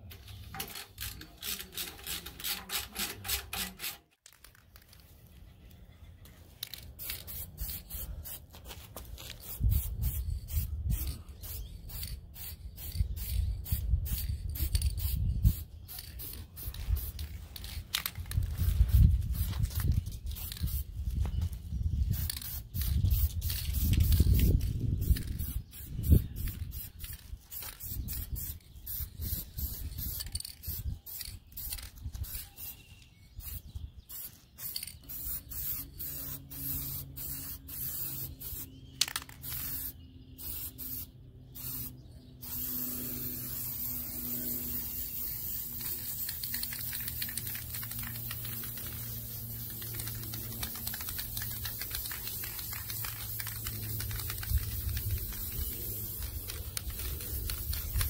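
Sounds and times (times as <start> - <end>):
spray can hissing: 6.6 - 8.4, 9.3 - 20.9, 22.1 - 32.8, 33.4 - 58.0.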